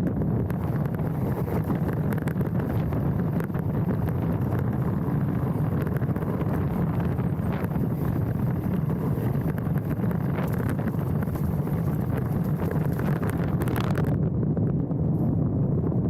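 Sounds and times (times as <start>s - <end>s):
bike tyre rumble: 0.0s - 16.0s
wind rushing over microphone: 0.0s - 16.0s.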